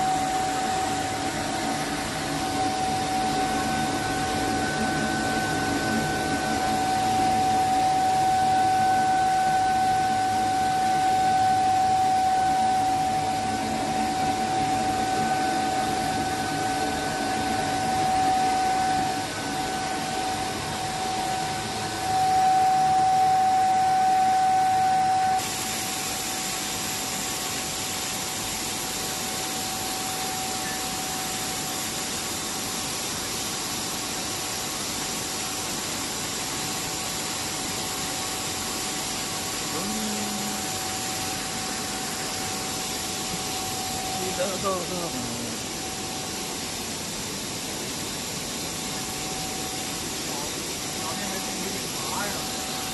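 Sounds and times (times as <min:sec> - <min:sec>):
bright even hiss: 0:00.0 - 0:52.9
machinery humming and whining: 0:00.0 - 0:52.9.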